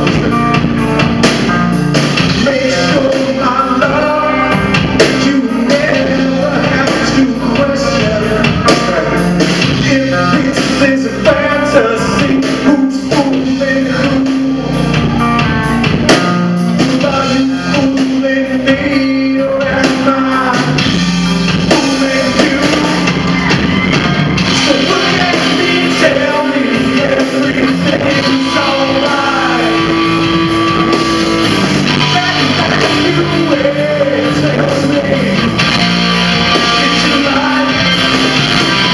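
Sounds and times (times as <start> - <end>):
live rock band playing: 0.0 - 38.9
person singing: 2.2 - 20.9, 21.6 - 38.9.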